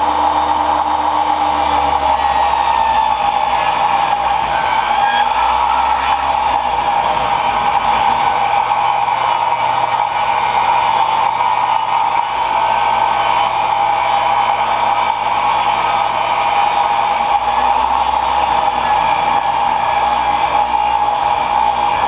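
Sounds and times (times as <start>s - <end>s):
table saw whining: 0.0s - 22.0s.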